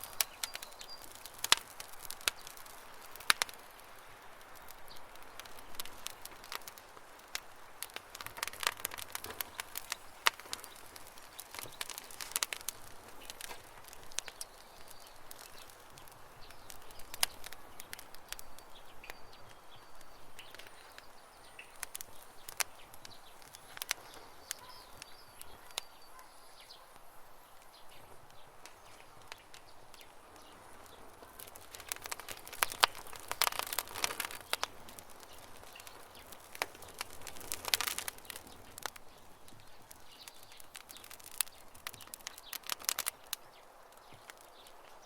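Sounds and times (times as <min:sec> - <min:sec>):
campfire crackling: 0:00.0 - 0:45.0
faint birds chirping: 0:00.0 - 0:45.0.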